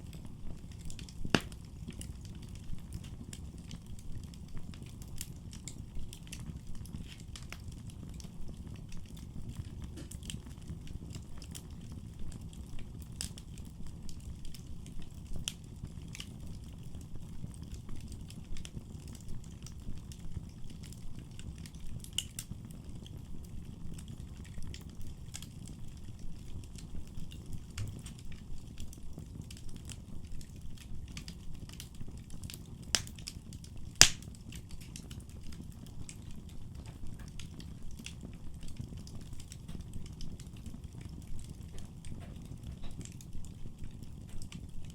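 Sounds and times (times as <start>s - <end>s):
fire crackling and popping: 0.0s - 44.9s
fire rumbling: 0.0s - 44.9s.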